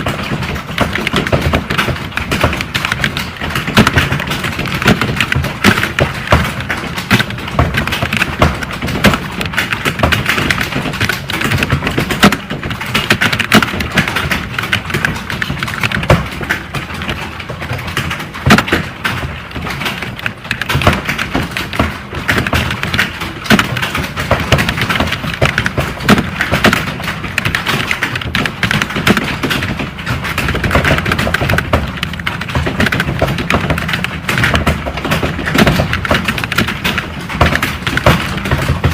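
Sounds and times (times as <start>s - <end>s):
fast keyboard typing: 0.0s - 38.9s.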